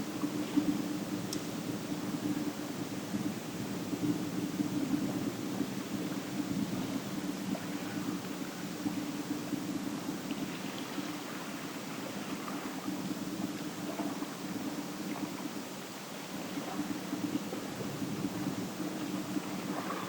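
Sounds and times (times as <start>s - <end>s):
outdoor ambient noise: 0.0s - 20.0s.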